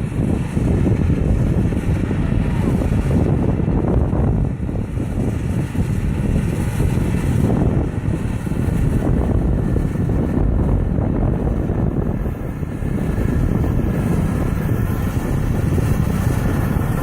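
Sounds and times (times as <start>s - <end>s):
cotton picker machinery rumble: 0.0s - 17.0s.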